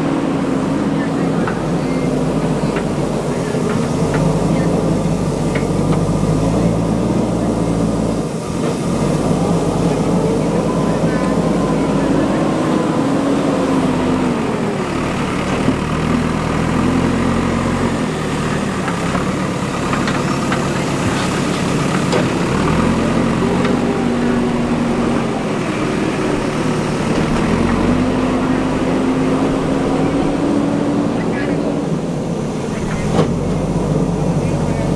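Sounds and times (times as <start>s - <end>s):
diesel engine revving under load: 0.0s - 34.9s.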